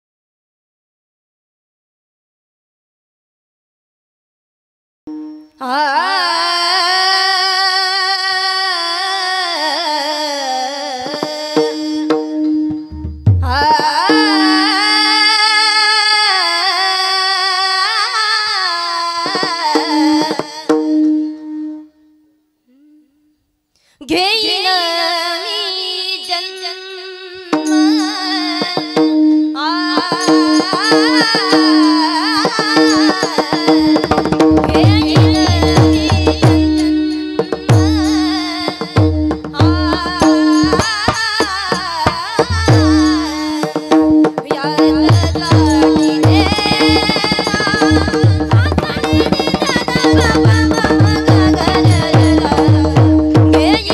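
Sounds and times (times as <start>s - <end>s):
woman singing: 5.6s - 21.9s, 24.0s - 53.9s.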